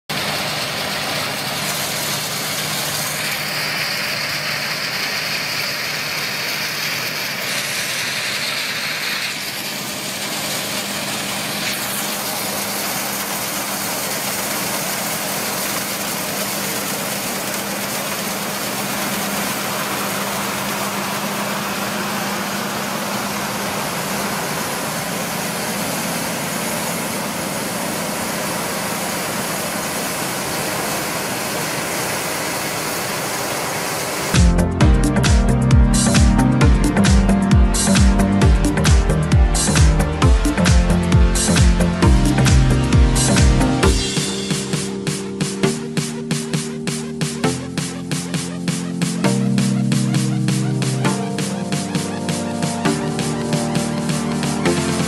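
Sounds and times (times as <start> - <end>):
heavy machinery engine running: 0.0 - 55.0
mechanical whine: 0.1 - 55.0.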